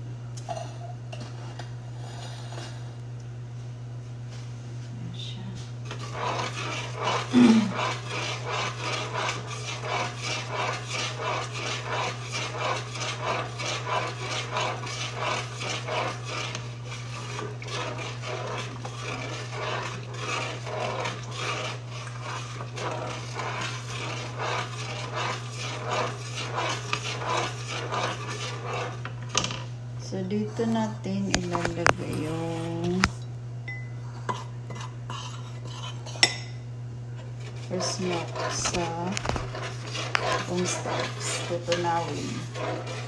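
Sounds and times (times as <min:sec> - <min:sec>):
utensil scraping metal pot: 0:05.8 - 0:33.1, 0:34.3 - 0:36.6, 0:37.2 - 0:43.0.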